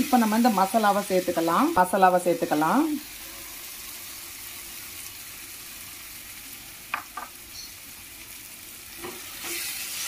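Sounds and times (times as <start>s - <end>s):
paste sizzling in oil: 0.0s - 10.0s.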